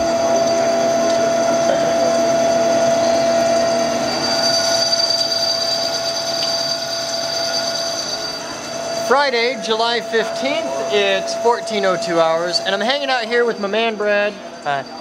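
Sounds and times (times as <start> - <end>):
coolant hissing: 0.0 - 15.0
lathe machining whine: 0.0 - 15.0.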